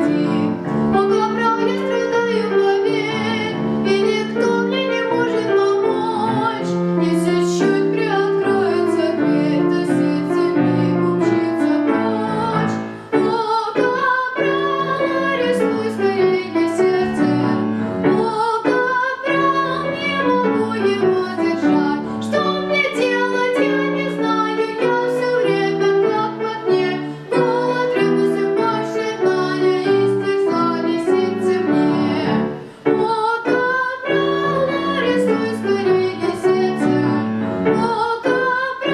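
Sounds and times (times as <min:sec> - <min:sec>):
piano accompaniment: 0:00.0 - 0:38.9
woman singing: 0:00.0 - 0:38.9.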